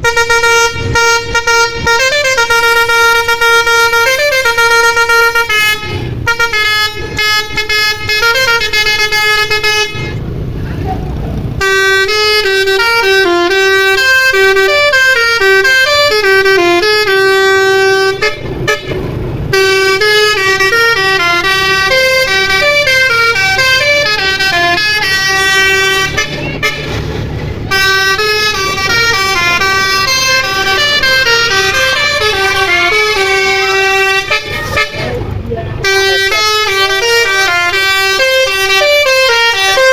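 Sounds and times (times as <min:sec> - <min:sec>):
bus air horn playing melody: 0:00.0 - 0:10.4, 0:11.5 - 0:39.9.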